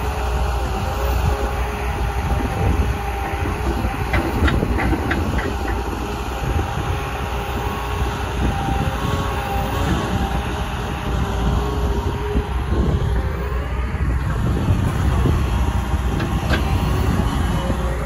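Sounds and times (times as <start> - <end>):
excavator diesel engine rumbling: 0.0 - 18.0
steady hydraulic whine: 0.0 - 18.0.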